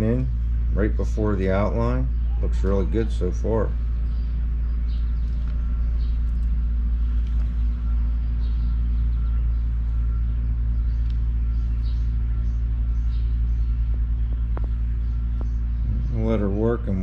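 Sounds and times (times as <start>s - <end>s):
low machine rumble and hum: 0.0s - 17.0s.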